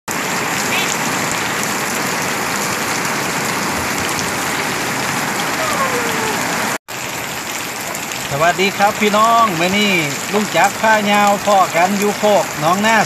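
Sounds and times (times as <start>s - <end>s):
heavy rain on wet ground: 0.1s - 13.0s.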